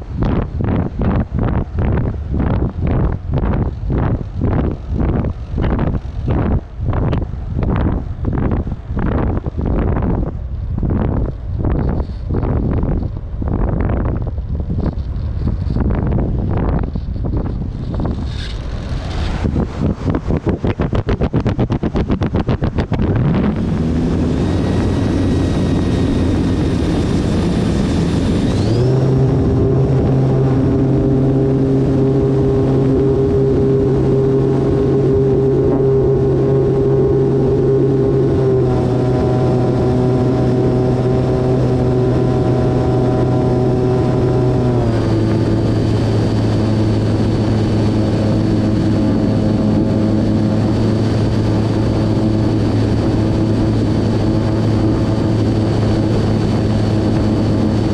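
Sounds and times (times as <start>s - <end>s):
electric motor and propeller whine: 0.0s - 57.9s.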